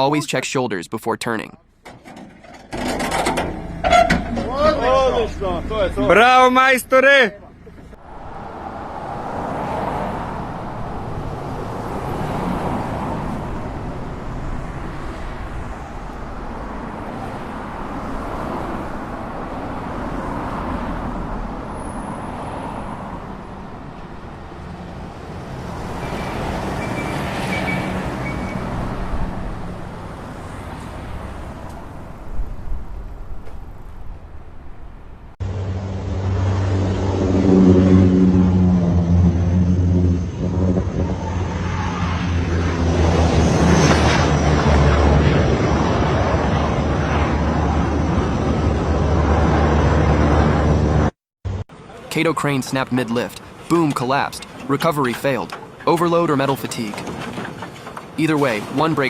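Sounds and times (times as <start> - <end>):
outdoor noise: 0.0 - 59.0
vehicle engine: 1.7 - 59.0.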